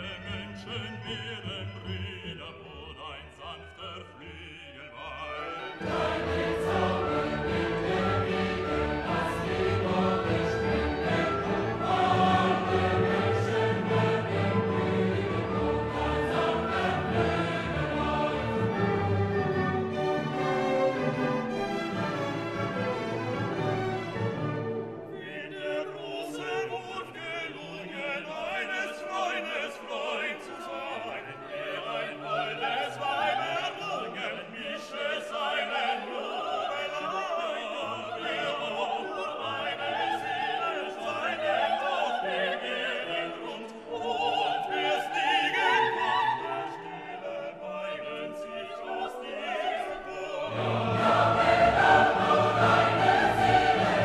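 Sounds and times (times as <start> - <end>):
operatic singing: 0.0 - 54.0
orchestral music: 0.0 - 54.0.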